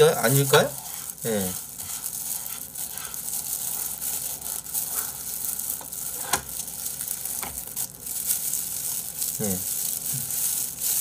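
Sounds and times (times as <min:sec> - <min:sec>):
plastic gloves crinkling: 0:00.0 - 0:11.0.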